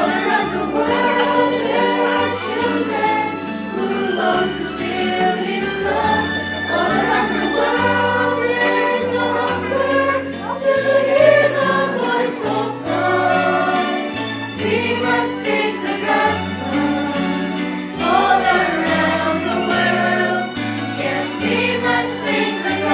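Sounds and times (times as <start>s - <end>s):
group singing: 0.0s - 22.9s.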